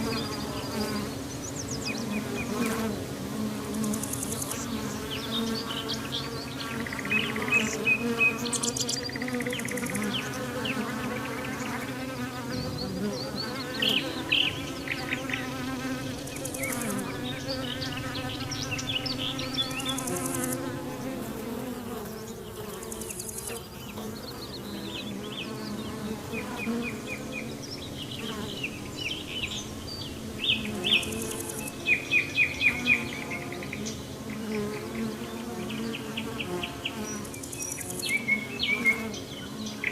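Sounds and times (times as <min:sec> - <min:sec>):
birds chirping and trilling: 0:00.0 - 0:39.9
flying insects buzzing: 0:00.0 - 0:39.9.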